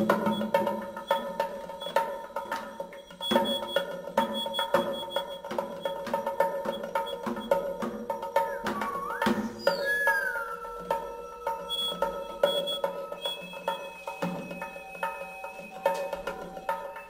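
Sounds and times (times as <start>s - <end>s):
steady held tones: 0.0s - 17.0s
wood-block-like knocking percussion: 0.0s - 17.0s.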